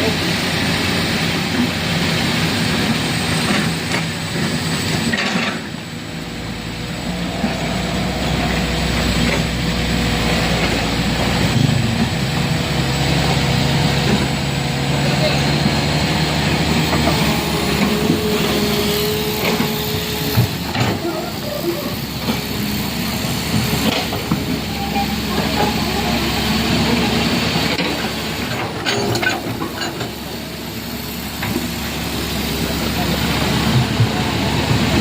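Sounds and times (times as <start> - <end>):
heavy vehicles on road: 0.0 - 35.0.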